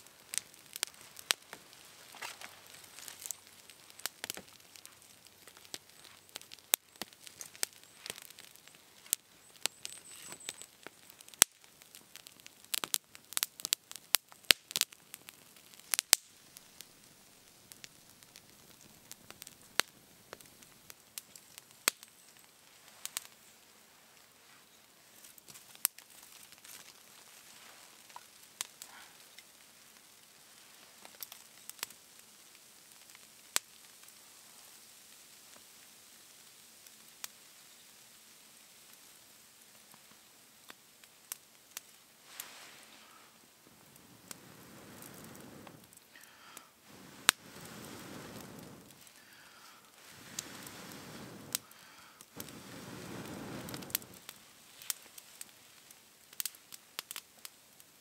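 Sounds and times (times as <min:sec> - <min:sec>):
twig fire crackling and popping: 0:00.0 - 0:58.0.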